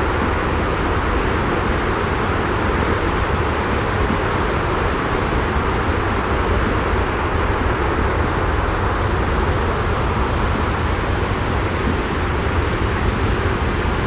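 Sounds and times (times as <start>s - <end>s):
white noise with low rumble: 0.0s - 14.0s.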